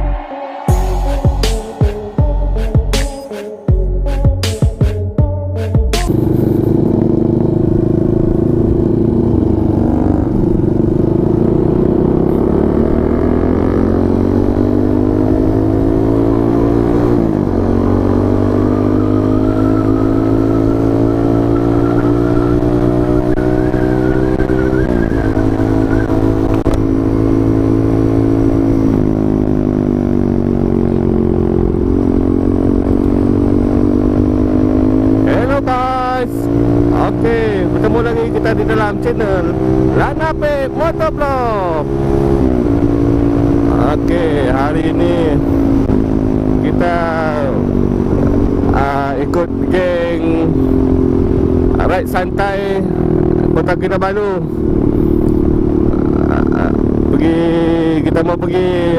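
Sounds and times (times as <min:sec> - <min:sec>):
motorcycle engine revving through gears: 0:06.0 - 0:58.9.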